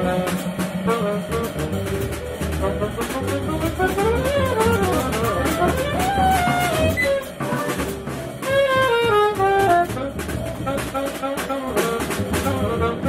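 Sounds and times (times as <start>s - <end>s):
bass: 0.0s - 13.0s
drums with cymbals: 0.0s - 13.0s
saxophone playing: 0.0s - 13.0s.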